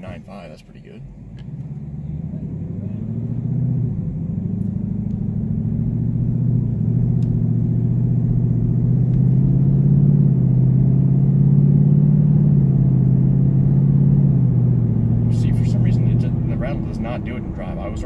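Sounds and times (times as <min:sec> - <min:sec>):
car engine pulling: 0:00.0 - 0:18.0.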